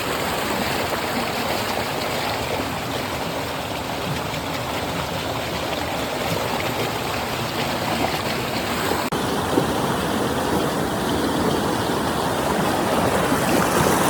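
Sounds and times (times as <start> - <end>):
water flowing: 0.0 - 14.0.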